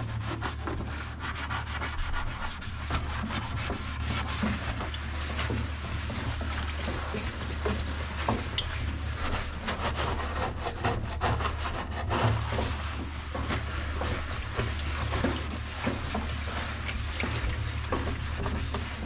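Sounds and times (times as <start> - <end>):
toothbrush scrubbing plastic: 0.2 - 19.0.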